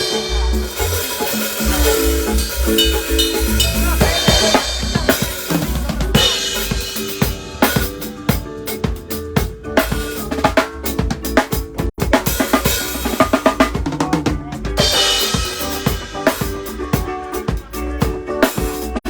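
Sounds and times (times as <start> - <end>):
drum kit beat: 0.0 - 19.0.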